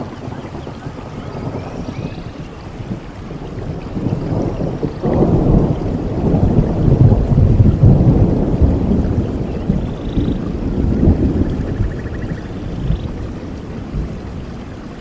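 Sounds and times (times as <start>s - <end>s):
falling rain: 0.0s - 15.0s
thunder rumbling: 0.0s - 15.0s.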